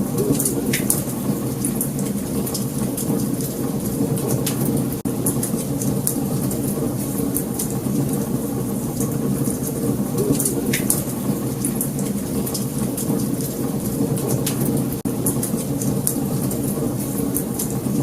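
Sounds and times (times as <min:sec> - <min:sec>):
low rumble of burning: 0:00.0 - 0:18.0
wood fire crackling and popping: 0:00.1 - 0:18.0.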